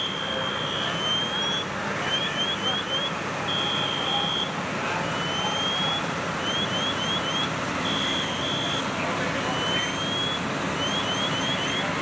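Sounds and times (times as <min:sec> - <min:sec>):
fire truck engines running: 0:00.0 - 0:12.0.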